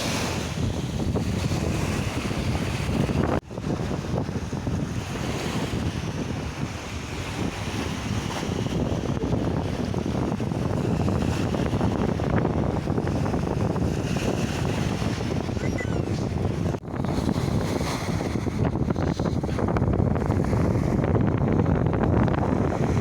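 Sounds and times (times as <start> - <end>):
sea waves: 0.0 - 23.0
wind buffeting microphone: 0.0 - 23.0.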